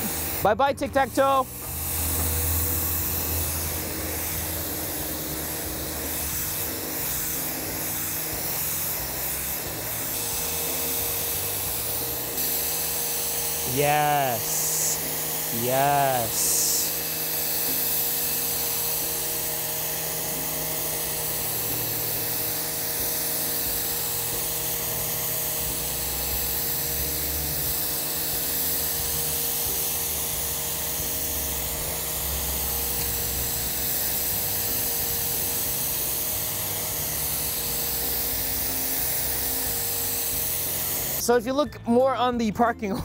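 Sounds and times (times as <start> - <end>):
water jet hissing on concrete: 0.0 - 41.2
pressure washer motor whine: 0.0 - 41.3.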